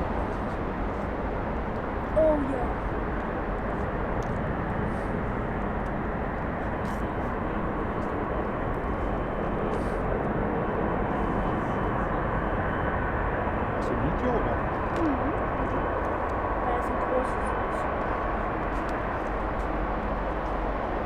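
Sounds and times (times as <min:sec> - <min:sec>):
airliner jet engines roaring: 0:00.0 - 0:21.0.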